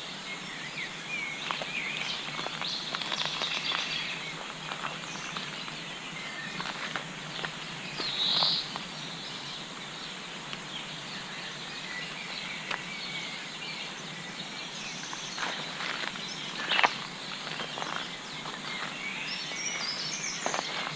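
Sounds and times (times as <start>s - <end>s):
songbirds chirping and singing: 0.0s - 20.9s
steady background hiss: 0.0s - 20.9s.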